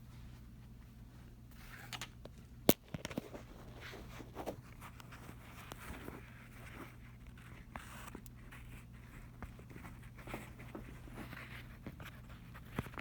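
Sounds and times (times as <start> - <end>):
low steady hum: 0.0 - 13.0
rustling and handling noises: 0.0 - 13.0.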